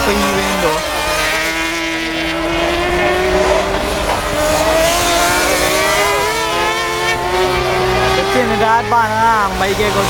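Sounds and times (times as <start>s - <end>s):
racing motorbike engines: 0.0s - 10.0s.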